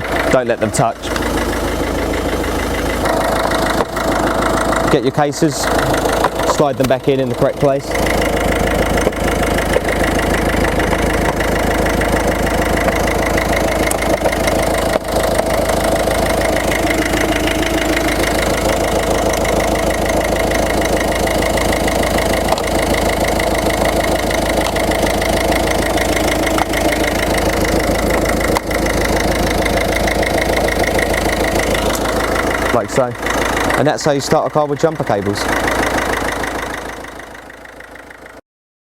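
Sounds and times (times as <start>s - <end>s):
car engine idling: 0.0s - 38.4s.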